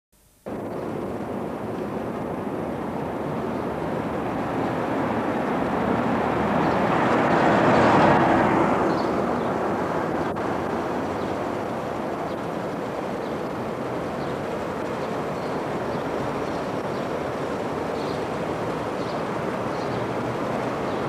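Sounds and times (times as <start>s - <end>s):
distant traffic rumble: 0.3s - 21.0s.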